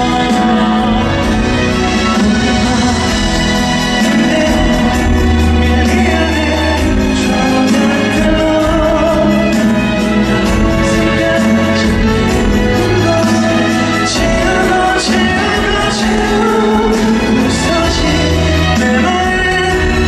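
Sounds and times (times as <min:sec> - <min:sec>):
instrumental backing with bass: 0:00.0 - 0:20.0
men singing pop: 0:00.0 - 0:20.0.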